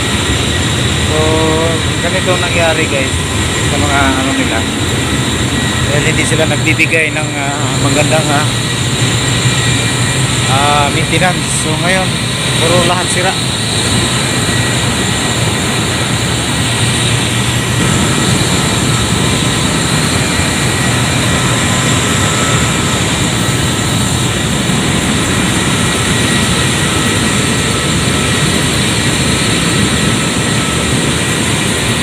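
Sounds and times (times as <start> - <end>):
thin whining tones: 0.0 - 31.4
machinery rushing noise: 0.0 - 32.0.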